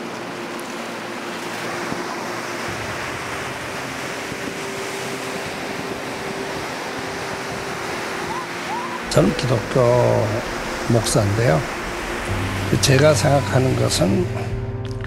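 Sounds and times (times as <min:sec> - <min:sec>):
waves breaking on shore: 0:00.0 - 0:14.6.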